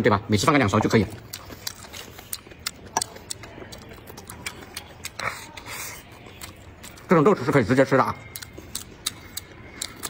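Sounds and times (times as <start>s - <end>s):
person chewing: 0.4s - 10.0s.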